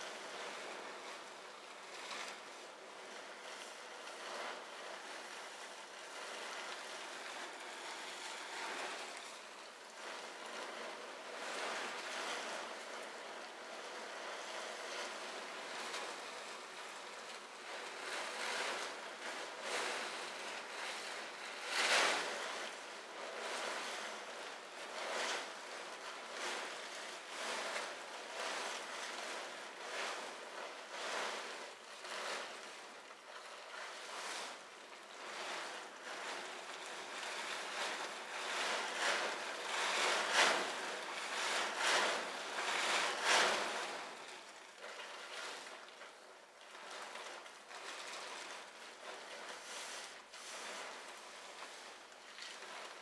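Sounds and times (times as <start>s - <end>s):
plastic tarp rustling: 0.1s - 53.0s.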